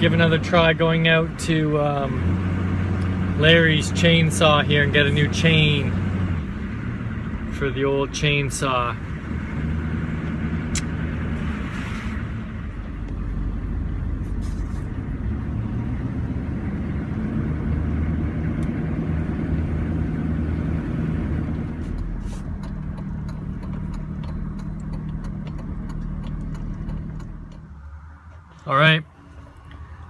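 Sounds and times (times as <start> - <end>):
car engine hum and road noise: 0.0 - 30.0.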